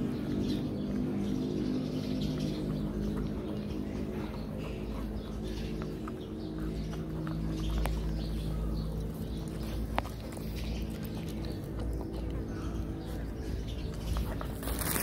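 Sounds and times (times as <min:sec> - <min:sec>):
puppy chewing bones: 0:00.0 - 0:15.0
steady low hum: 0:00.0 - 0:15.0.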